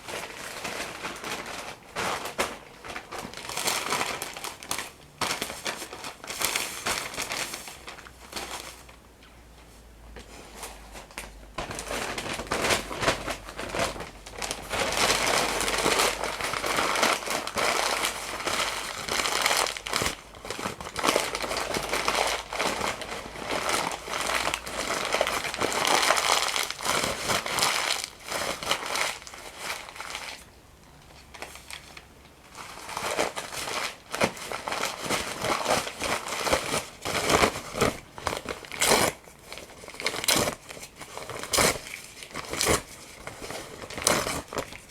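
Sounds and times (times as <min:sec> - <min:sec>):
paper crumpling: 0:00.0 - 0:08.9, 0:10.3 - 0:30.5, 0:31.2 - 0:44.9.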